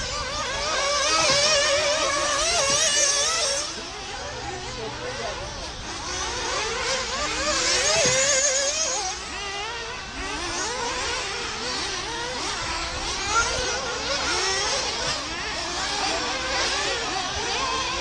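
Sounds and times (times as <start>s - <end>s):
rc car engines whining: 0.0s - 18.0s.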